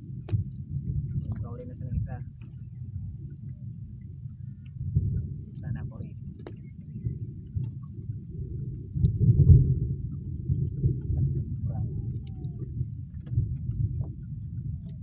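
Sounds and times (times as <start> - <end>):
wind buffeting microphone: 0.0 - 15.0
faint ticks: 2.3 - 15.0.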